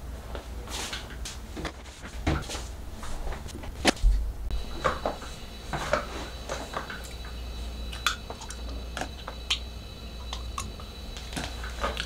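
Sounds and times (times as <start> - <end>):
steady low hum: 0.0 - 12.0
faint high whine: 2.2 - 12.0.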